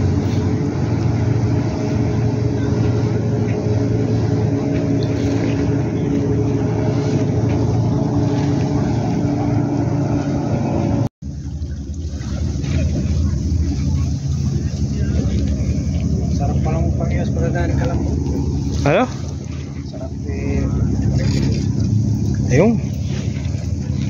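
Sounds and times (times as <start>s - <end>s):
boat engines droning: 0.0s - 24.0s.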